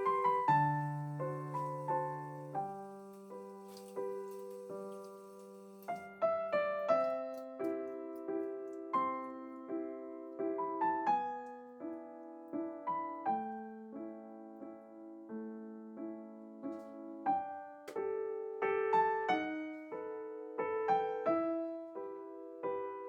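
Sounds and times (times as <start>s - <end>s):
solo piano melody: 0.0s - 23.0s.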